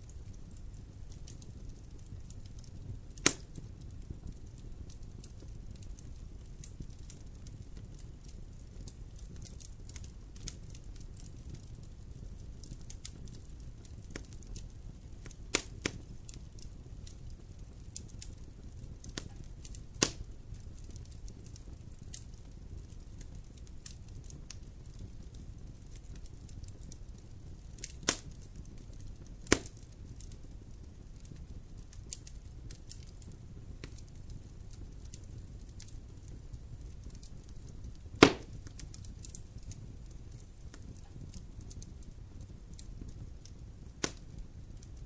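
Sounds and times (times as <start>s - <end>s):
sharp pops from fire: 0.0s - 45.0s
wood fire crackling: 0.0s - 45.0s.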